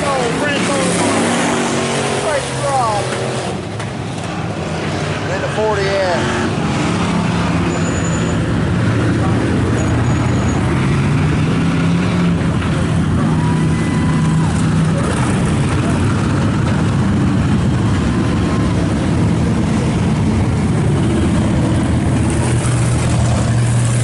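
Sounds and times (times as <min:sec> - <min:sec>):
race car engines running: 0:00.0 - 0:24.0.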